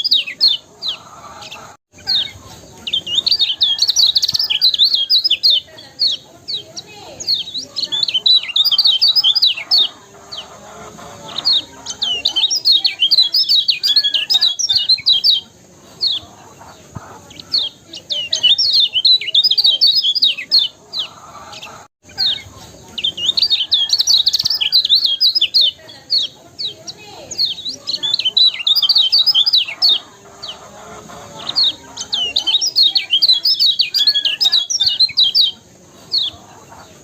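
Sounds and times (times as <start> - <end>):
songbird chattering chirps: 0.0 - 37.0.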